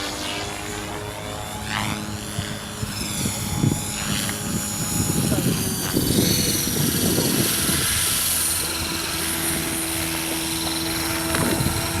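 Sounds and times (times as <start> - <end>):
rc helicopter motor whine: 0.0 - 12.0
rotor noise: 0.0 - 12.0
steady lower hum: 0.0 - 12.0.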